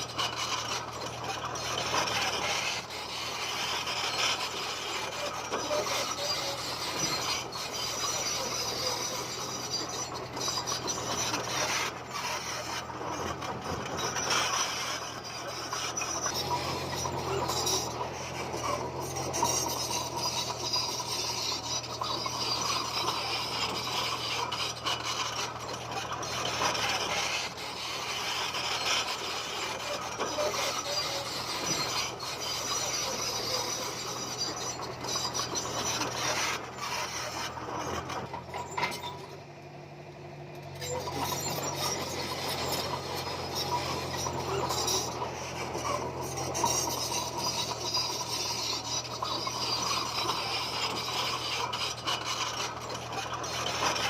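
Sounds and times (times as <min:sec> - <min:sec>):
diesel engine running: 0:00.0 - 0:54.0
steel tracks scraping on stone: 0:00.0 - 0:54.0.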